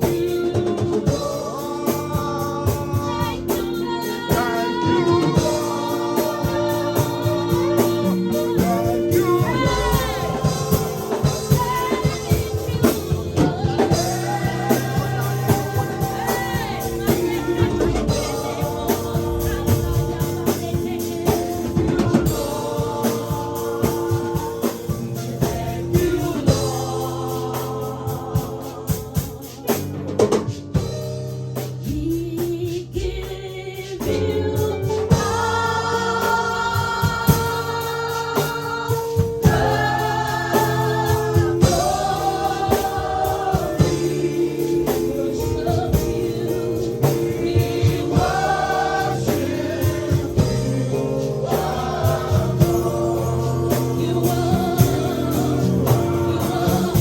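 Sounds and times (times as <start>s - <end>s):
keyboard chords: 0.0s - 29.8s, 34.3s - 57.0s
voices singing held notes: 0.0s - 30.0s, 33.8s - 57.0s
drum kit: 0.0s - 57.0s.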